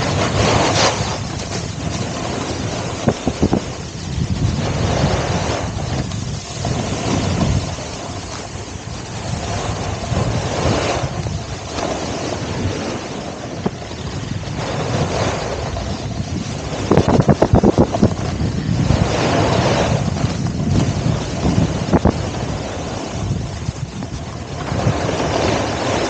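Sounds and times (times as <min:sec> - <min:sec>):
skis sliding through slushy snow: 0:00.0 - 0:26.0
wind buffeting microphone: 0:00.0 - 0:26.0.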